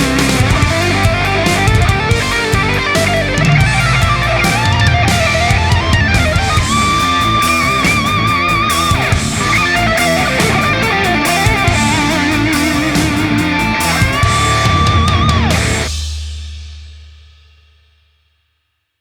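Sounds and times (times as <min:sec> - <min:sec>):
wavering lead guitar note: 0:00.0 - 0:15.9
guitar-led rock music: 0:00.0 - 0:16.1.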